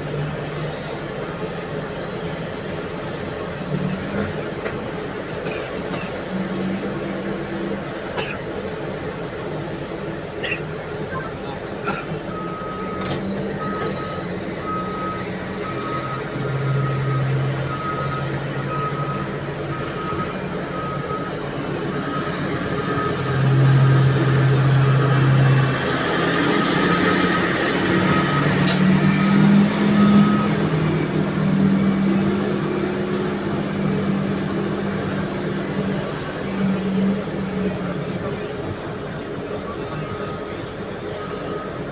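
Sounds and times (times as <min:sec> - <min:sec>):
heavy diesel engines running: 0:00.0 - 0:41.9.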